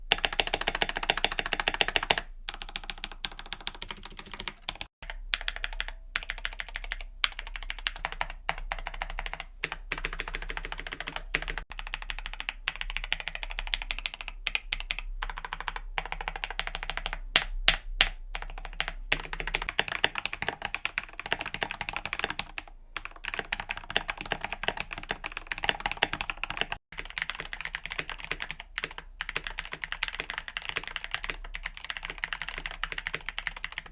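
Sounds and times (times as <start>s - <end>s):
typing on mechanical keyboard: 0.0s - 33.9s.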